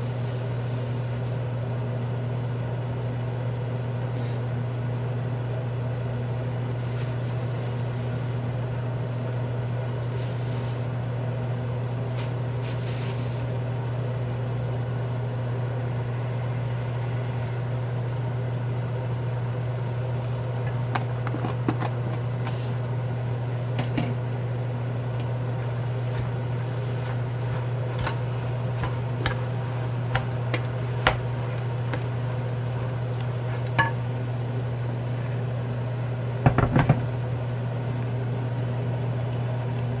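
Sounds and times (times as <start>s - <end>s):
kitchen machine humming: 0.0s - 40.0s.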